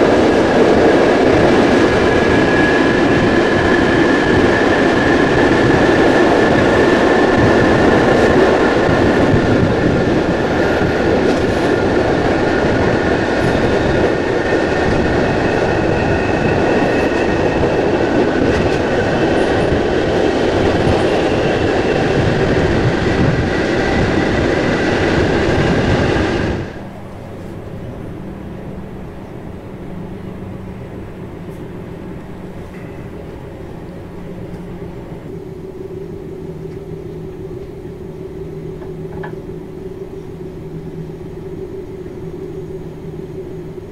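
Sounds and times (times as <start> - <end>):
train running on rails: 0.0 - 43.9.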